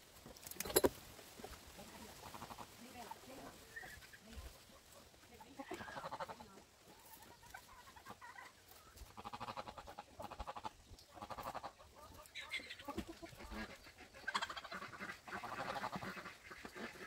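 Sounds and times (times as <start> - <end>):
farm animals calling: 0.6 - 17.0.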